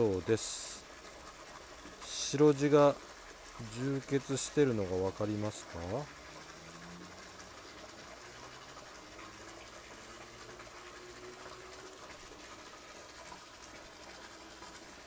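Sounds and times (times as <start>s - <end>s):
faint moving water: 0.0s - 15.0s.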